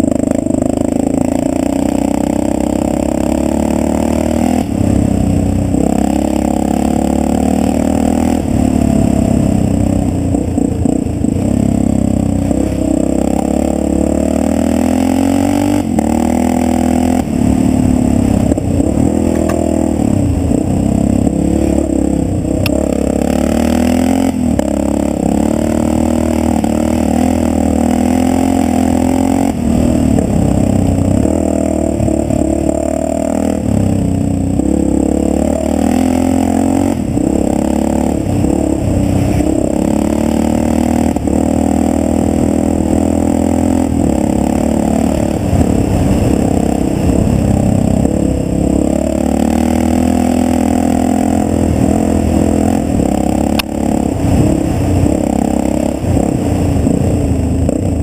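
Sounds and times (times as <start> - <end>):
motorcycle engine revving under load: 0.0 - 58.0.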